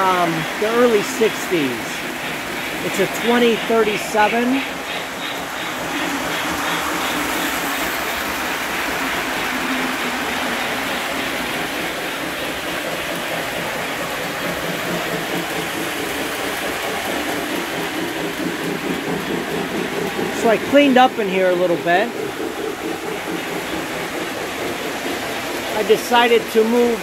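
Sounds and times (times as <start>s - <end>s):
model trains rolling on metal track: 0.0s - 27.0s.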